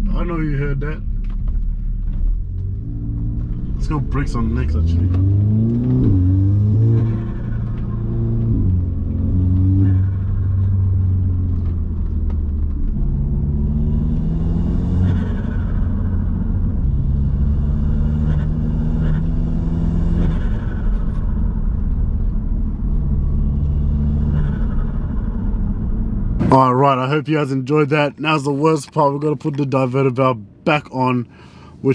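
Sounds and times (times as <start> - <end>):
car engine revving: 0.1 - 31.1.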